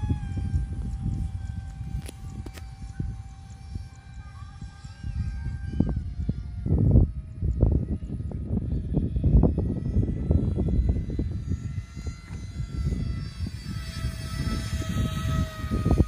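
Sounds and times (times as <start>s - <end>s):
model plane electric motor whining: 0.0s - 16.0s
wind rumble on microphone: 0.0s - 16.0s.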